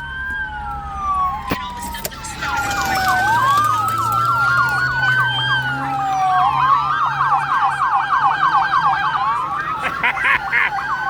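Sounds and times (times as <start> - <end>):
police sirens wailing and yelping: 0.0 - 11.0.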